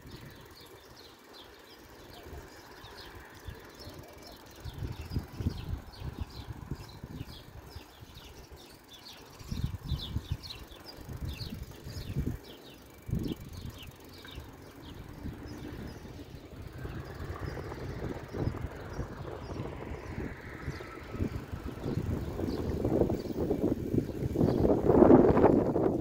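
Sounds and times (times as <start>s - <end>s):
vehicle approaching: 0.0s - 25.7s
small birds chirping: 0.0s - 26.0s
wind rumble on microphone: 2.1s - 26.0s.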